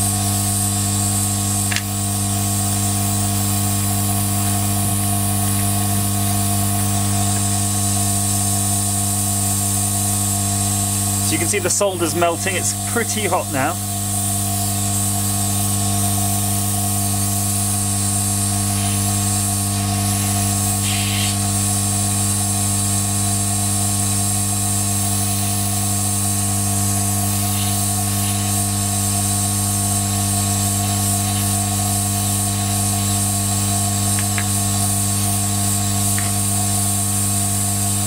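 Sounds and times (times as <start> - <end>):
hot air gun running: 0.0 - 38.0.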